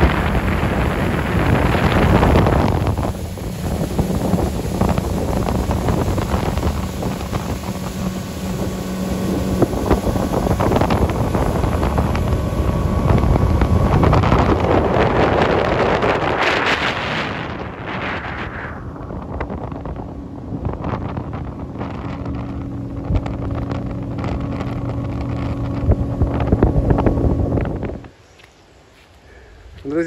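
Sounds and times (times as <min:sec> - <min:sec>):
outboard motor running: 0:00.0 - 0:28.1
wind buffeting microphone: 0:00.0 - 0:28.2.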